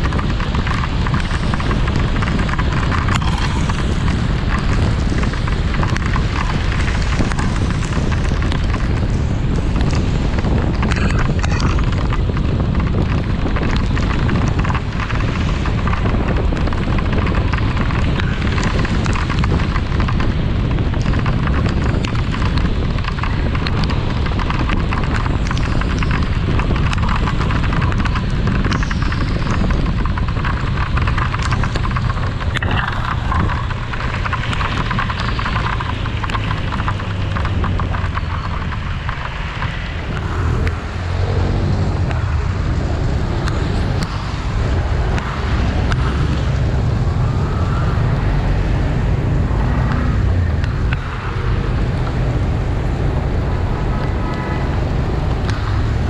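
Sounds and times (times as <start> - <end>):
rain crackling: 0.0 - 56.0
scooter engine rumble: 0.0 - 56.0
wind and road noise: 0.0 - 56.0.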